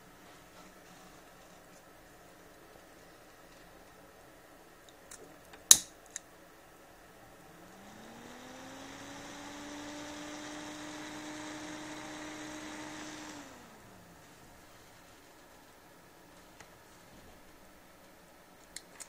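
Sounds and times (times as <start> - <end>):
computer cooling fan humming: 0.0 - 19.0.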